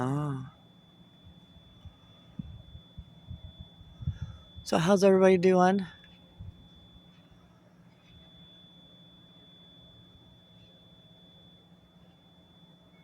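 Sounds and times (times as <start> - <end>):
faint high-pitched tone: 0.0 - 13.0
faint low hum: 0.0 - 13.0.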